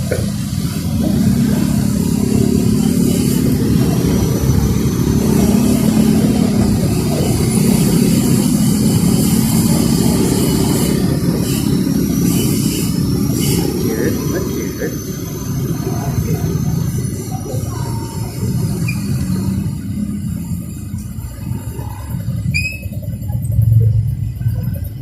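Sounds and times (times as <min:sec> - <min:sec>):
low road rumble: 0:00.0 - 0:25.0
motorcycle engine running: 0:00.0 - 0:25.0.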